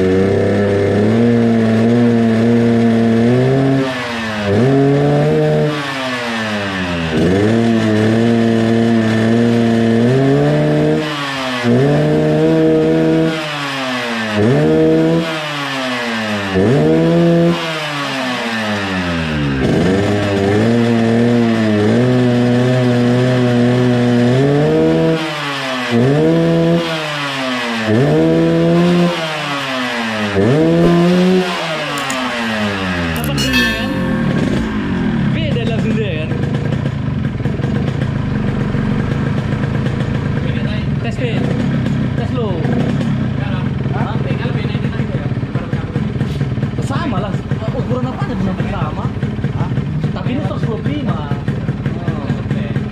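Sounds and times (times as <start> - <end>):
motorcycle engine revving: 0.0 - 47.6.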